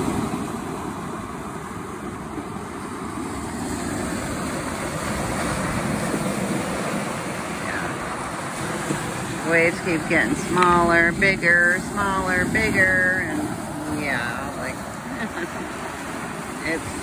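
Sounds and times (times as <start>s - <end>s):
waves breaking on shore: 0.0s - 17.0s.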